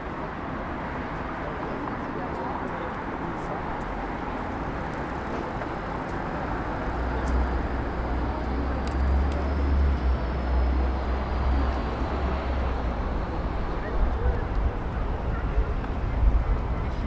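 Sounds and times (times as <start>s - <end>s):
steady road noise: 0.0s - 17.0s.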